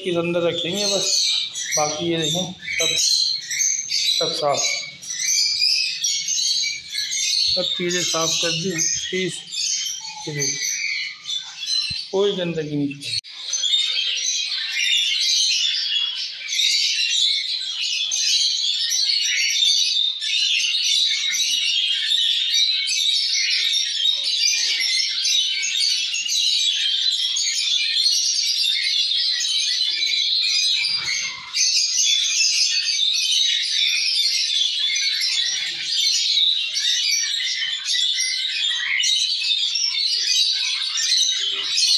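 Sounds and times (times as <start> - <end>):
birds chirping and chattering: 0.0 - 41.9.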